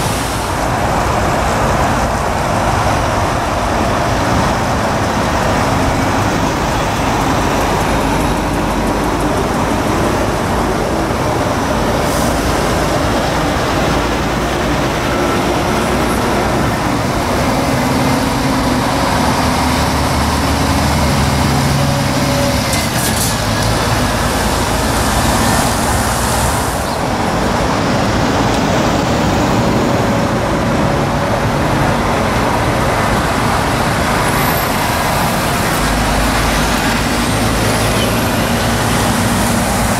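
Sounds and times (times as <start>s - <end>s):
lorry diesel engine running: 0.0s - 39.9s.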